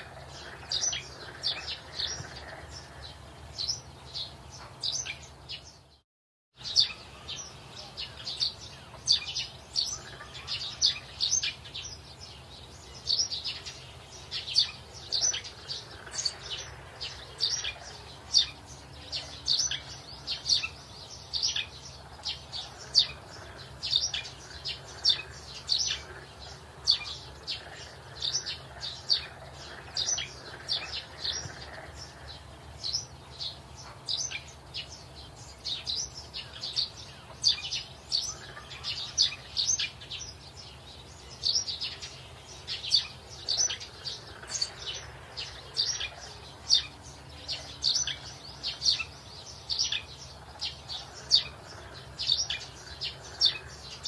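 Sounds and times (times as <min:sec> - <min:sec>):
bird chirping: 0:00.0 - 0:06.0, 0:06.6 - 0:54.0.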